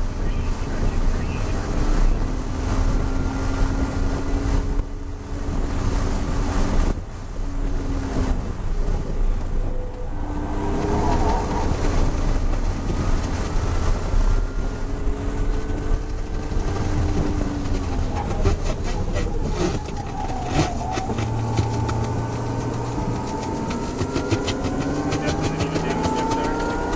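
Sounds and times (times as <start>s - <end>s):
car engine accelerating hard: 0.0s - 26.9s
road and wind noise: 0.0s - 26.9s.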